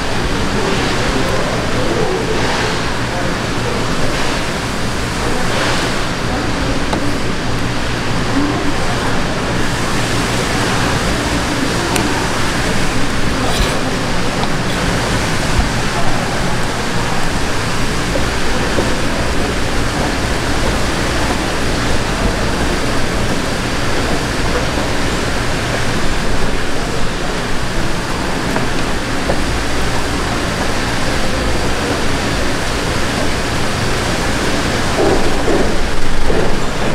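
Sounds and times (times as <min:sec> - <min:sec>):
indistinct voices: 0:00.0 - 0:36.9
loud rushing background noise: 0:00.0 - 0:36.9.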